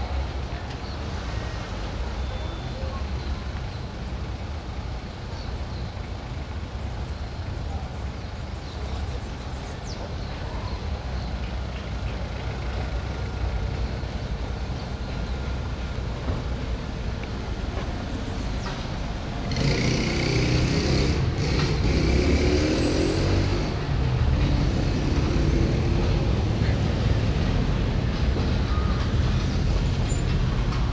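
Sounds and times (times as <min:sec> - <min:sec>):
low rumble of passing cars: 0:00.0 - 0:30.9
vehicle engine with hiss: 0:00.0 - 0:30.9.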